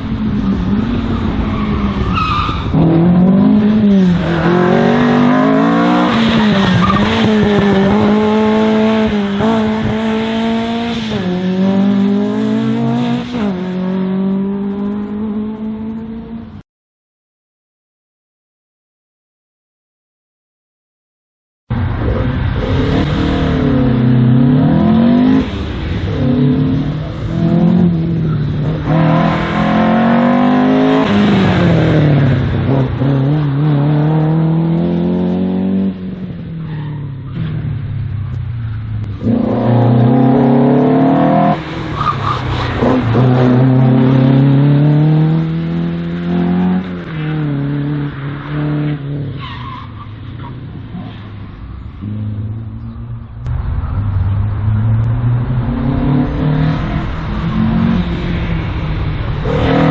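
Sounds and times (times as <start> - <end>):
race car engine revving: 0.0 - 16.6, 21.7 - 59.9.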